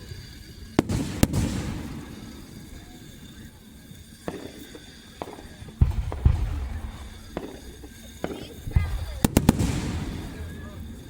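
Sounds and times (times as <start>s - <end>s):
fireworks rumble: 0.0s - 11.0s
fireworks sharp cracks: 0.0s - 11.0s
heavy fireworks booms: 0.8s - 11.0s.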